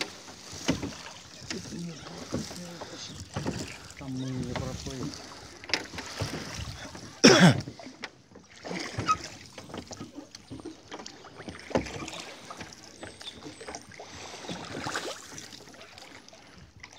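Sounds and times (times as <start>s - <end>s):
oars knocking in oarlocks: 0.0s - 13.8s
oars splashing through water: 0.0s - 16.9s.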